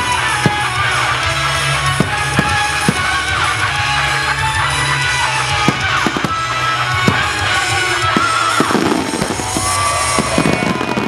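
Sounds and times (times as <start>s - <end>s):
firework bangs: 0.0s - 11.0s
loud band music: 0.0s - 11.0s.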